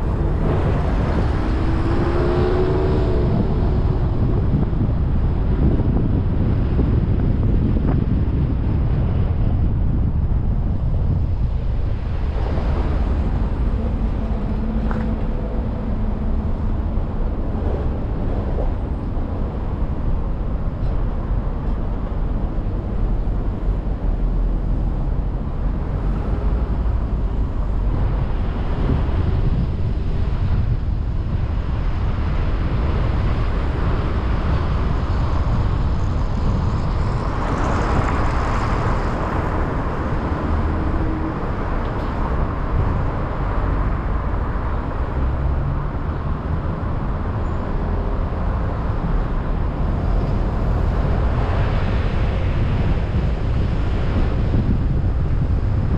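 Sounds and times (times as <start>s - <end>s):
passing vehicle rush: 0.0s - 55.9s
road traffic rumble: 0.0s - 55.9s.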